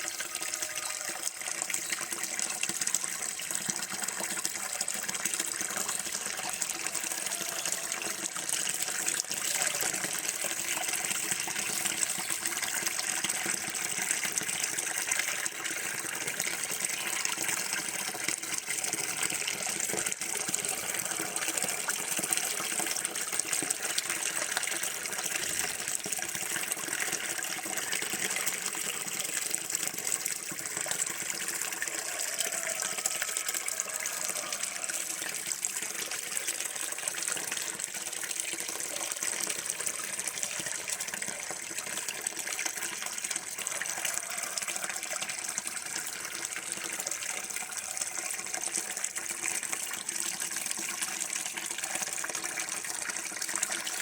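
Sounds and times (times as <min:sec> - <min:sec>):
running water pouring: 0:00.0 - 0:54.0.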